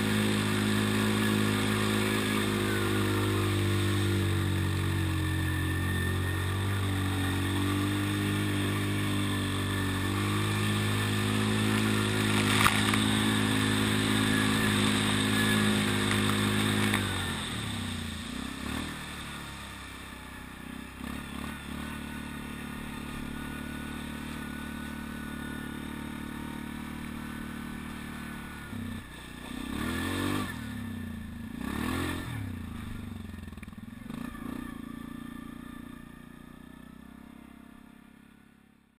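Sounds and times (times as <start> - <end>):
quad bike engine revving: 0.0 - 39.0.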